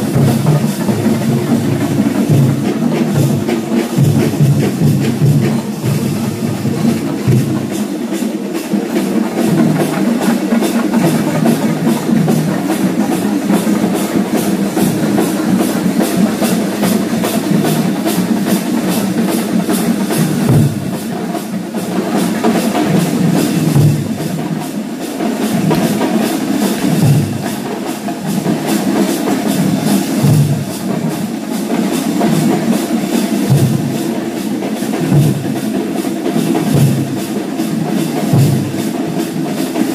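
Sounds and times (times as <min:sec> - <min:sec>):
deeper drum beats: 0:00.0 - 0:39.9
fast continuous drumming: 0:00.0 - 0:39.9.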